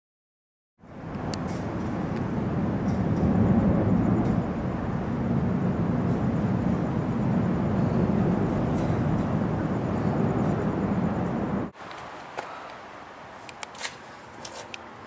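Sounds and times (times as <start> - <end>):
low rumbling outdoor noise: 0.8 - 15.0.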